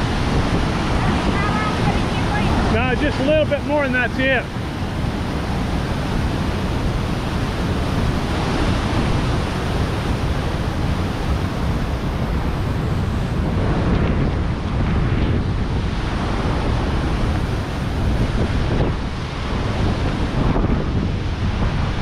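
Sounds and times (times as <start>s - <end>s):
waterfall roaring: 0.0s - 22.0s
wind buffeting microphone: 0.0s - 22.0s.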